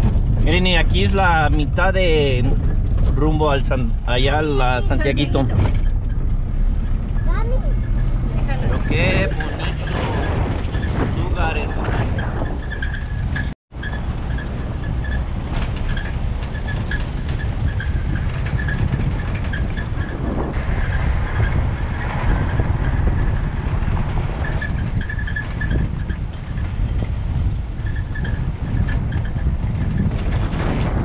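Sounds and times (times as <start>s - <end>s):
car driving on dirt road: 0.0s - 31.0s.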